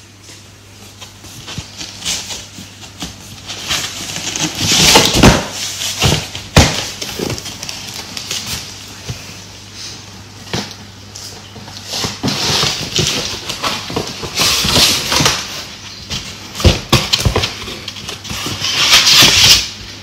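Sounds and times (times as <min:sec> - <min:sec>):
cardboard scraping and rustling: 0:00.8 - 0:20.0.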